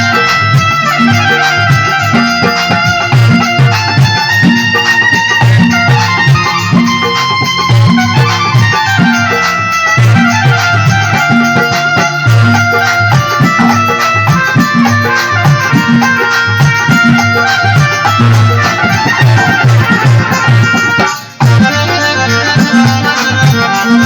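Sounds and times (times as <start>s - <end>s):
reed instrument melody: 0.0s - 24.0s
steady drum beat: 0.0s - 24.0s.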